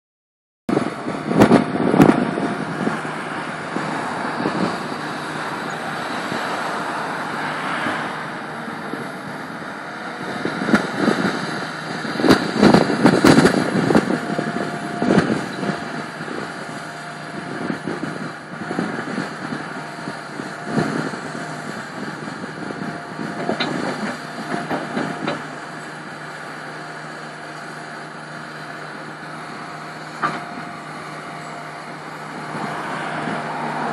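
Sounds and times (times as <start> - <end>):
excavator diesel engine running: 0.7 - 33.9.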